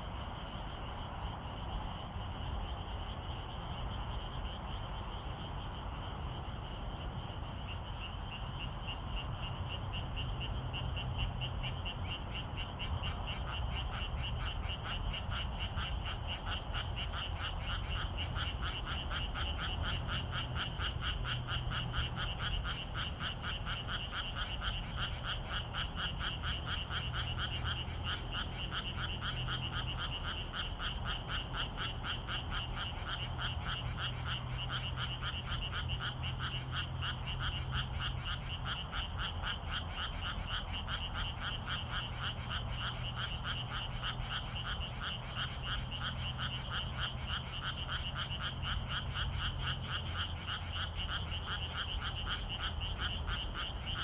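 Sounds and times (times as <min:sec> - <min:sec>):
frogs croaking in chorus: 0:00.0 - 0:54.0.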